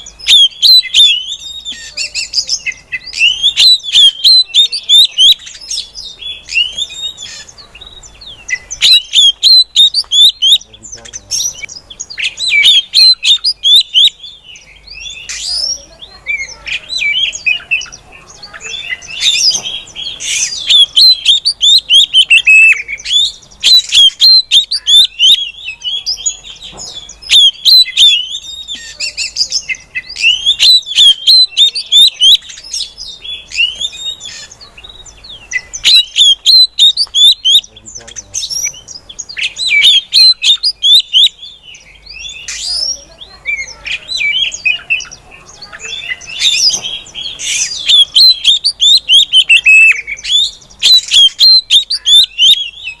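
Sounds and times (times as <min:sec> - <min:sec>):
bird calling with rapid chirps: 0:00.0 - 0:53.0.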